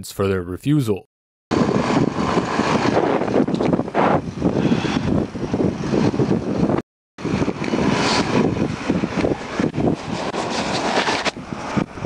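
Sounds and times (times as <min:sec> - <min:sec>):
highway traffic: 0:01.5 - 0:12.0
wind on microphone: 0:01.5 - 0:12.0.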